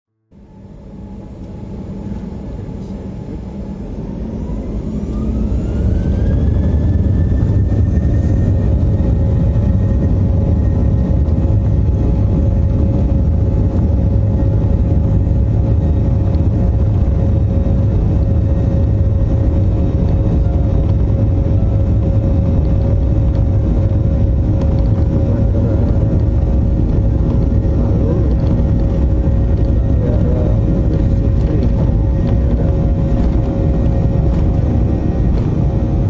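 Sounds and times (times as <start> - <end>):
jet engines spooling up: 0.4 - 36.0.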